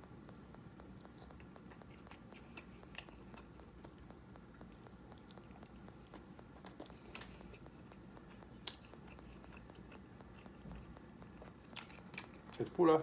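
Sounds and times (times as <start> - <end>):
faint chewing with crunches: 0.0 - 13.0.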